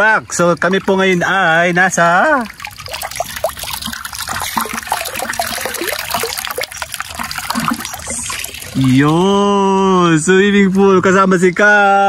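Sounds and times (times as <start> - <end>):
pool water trickling and splashing: 0.0 - 12.0.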